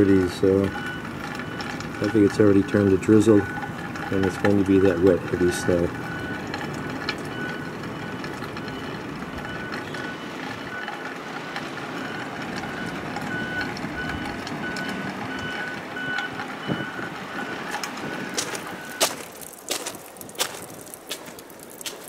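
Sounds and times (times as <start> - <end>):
reversing alarm beeps: 0.1 - 19.3.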